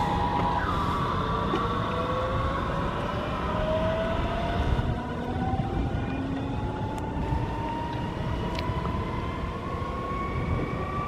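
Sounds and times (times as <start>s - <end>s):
train low rumble: 0.0s - 11.0s
train traction motor whine: 0.0s - 11.0s.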